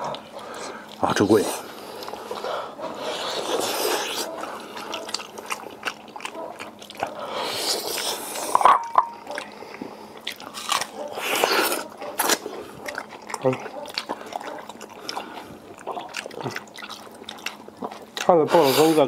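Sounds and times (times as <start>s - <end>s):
wet chewing and smacking: 0.0s - 19.0s.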